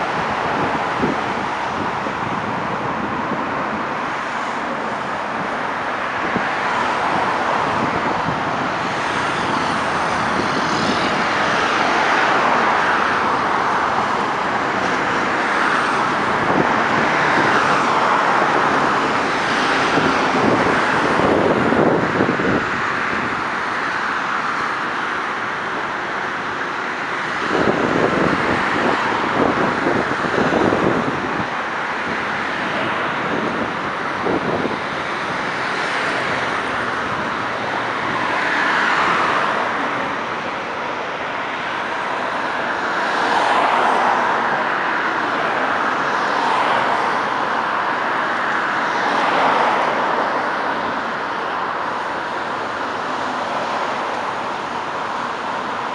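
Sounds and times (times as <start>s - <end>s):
vehicles passing on road: 0.0s - 55.9s.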